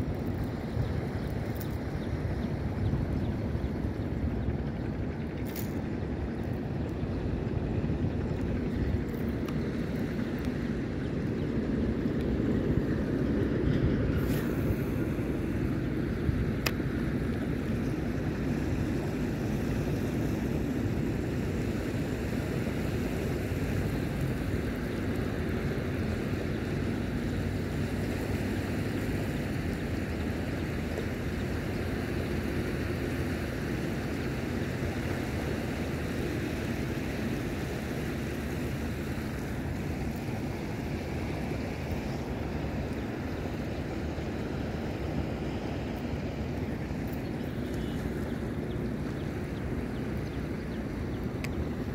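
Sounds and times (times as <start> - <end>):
small sea waves: 0.0 - 51.9
wind rumbling on microphone: 0.0 - 51.9.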